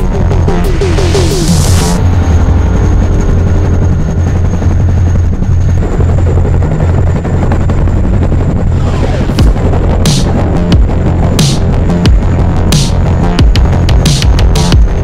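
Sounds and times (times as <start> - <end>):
helicopter rotors and engines droning: 0.0 - 15.0.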